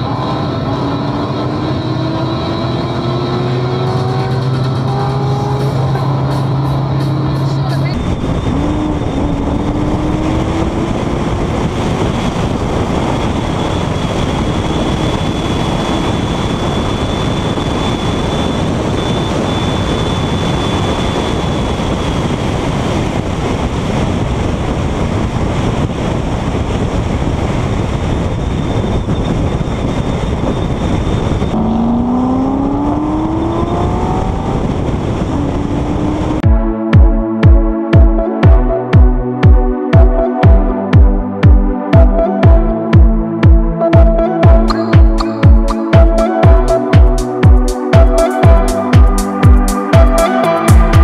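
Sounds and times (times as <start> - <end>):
car engine note: 0.0 - 22.5, 31.0 - 51.0
wind and road noise: 0.0 - 51.0.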